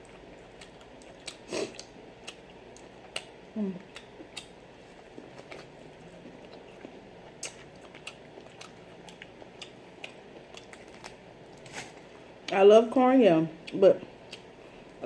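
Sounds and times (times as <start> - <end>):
chewing and lip-smacking: 0.0 - 11.6, 13.6 - 15.0.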